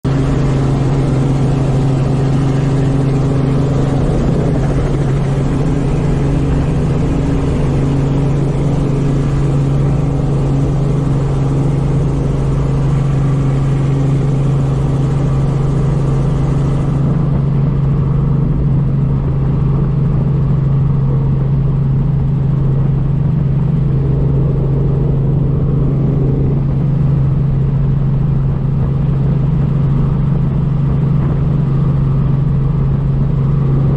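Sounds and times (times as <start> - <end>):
helicopter engine and rotor drone: 0.0 - 33.9.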